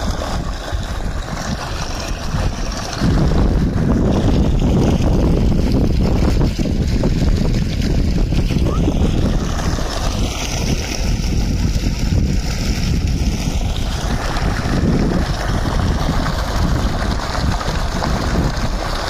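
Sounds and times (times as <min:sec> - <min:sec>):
water gushing into pool: 0:00.0 - 0:19.0
wind buffeting microphone: 0:00.0 - 0:19.0.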